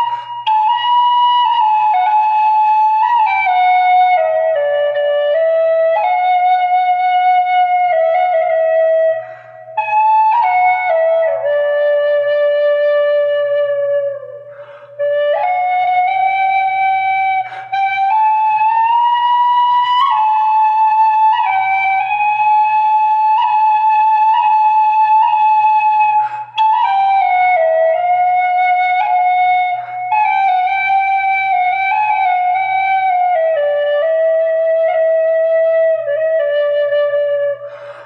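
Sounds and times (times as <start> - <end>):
flute melody: 0.0 - 38.0.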